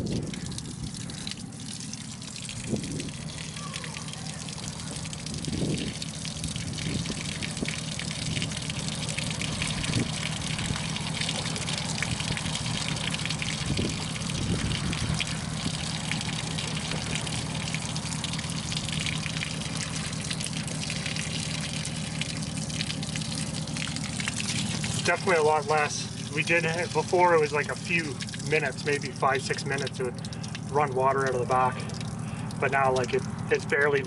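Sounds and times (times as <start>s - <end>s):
water draining from boat hull: 0.0s - 34.0s.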